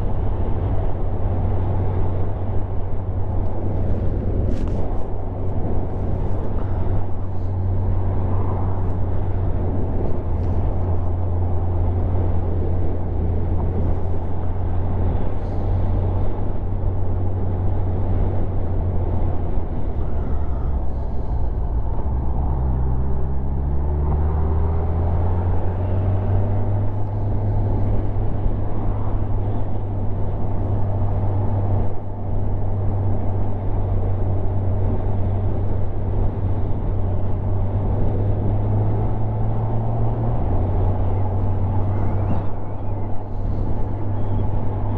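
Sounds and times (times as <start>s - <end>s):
rushing wind: 0.0s - 44.9s.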